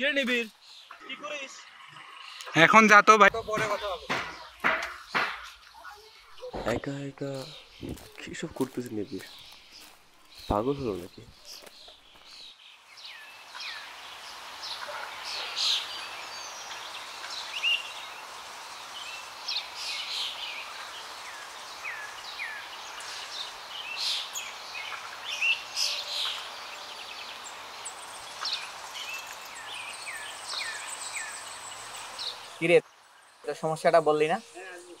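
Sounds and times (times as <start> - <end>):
birds chirping and calling: 0.0 - 35.0
steady outdoor hiss: 0.0 - 35.0.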